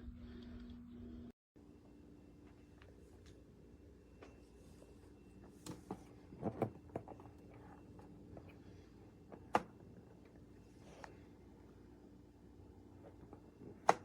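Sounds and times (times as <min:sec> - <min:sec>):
heater fan motor hum: 0:00.0 - 0:14.0.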